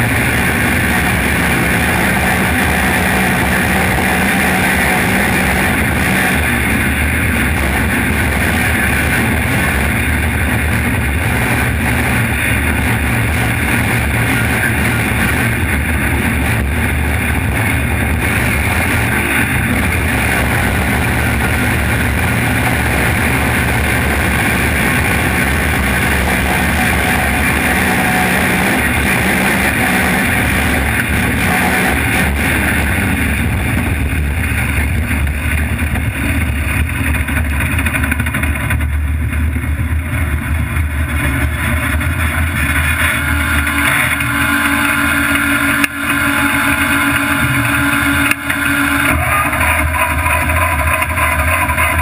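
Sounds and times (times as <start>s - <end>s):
truck engine: 0.0s - 52.0s
wind noise: 0.0s - 52.0s.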